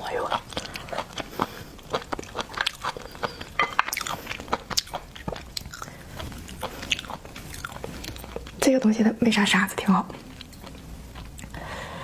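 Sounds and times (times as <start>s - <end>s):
wet chewing: 0.0s - 8.9s, 10.1s - 11.7s.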